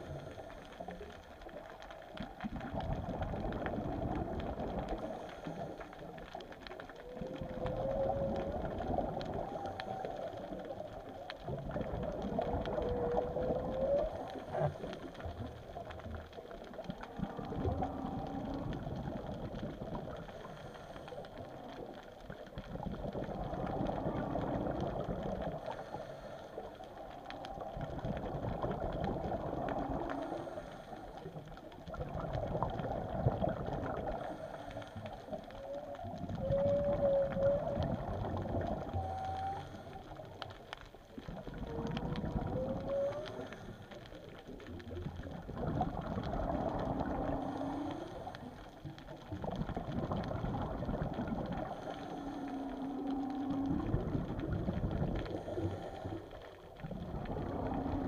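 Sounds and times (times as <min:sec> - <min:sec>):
crackle of fine clicks: 0:00.0 - 0:58.0
whale song: 0:00.0 - 0:58.0.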